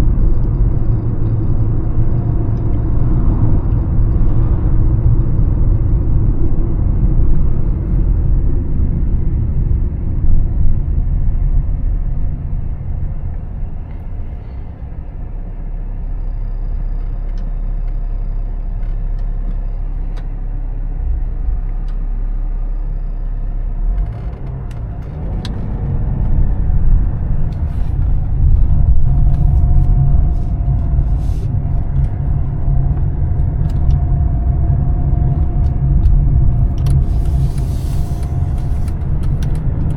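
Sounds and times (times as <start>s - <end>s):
diesel car engine rumble: 0.0s - 39.9s
road noise: 0.0s - 39.9s
steady whine: 0.0s - 39.9s.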